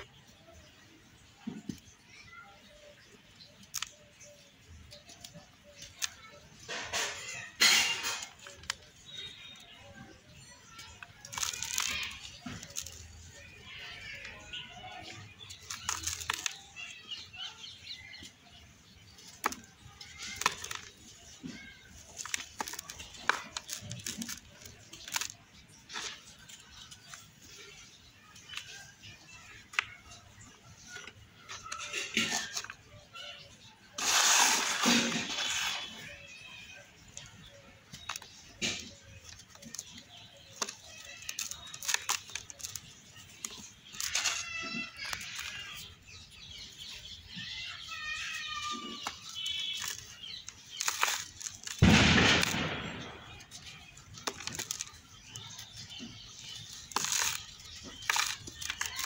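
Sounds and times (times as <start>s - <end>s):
dry soil cups crunching: 0.0s - 59.0s
powder trickling: 0.0s - 59.0s.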